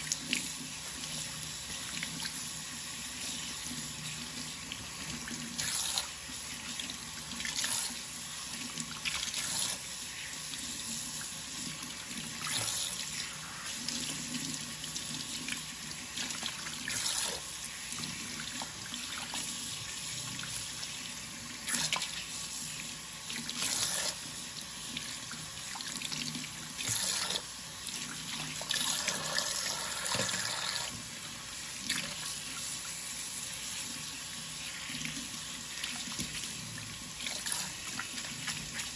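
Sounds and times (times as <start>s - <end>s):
faucet running into steel sink: 0.0s - 38.9s.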